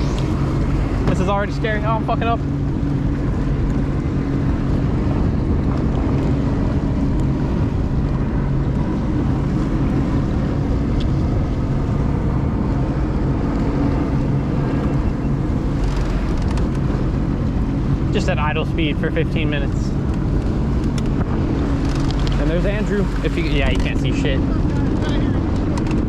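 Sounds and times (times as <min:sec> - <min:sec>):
jet ski engine running: 0:00.0 - 0:26.0
wind buffeting microphone: 0:00.0 - 0:26.0.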